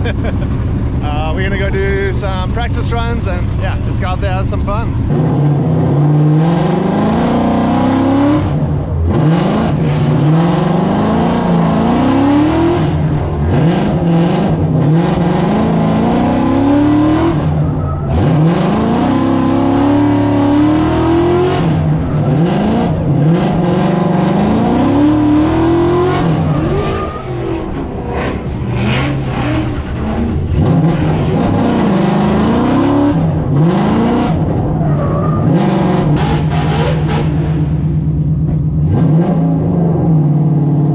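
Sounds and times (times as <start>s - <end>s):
car engine revving hard: 0.0s - 38.2s, 38.8s - 40.9s.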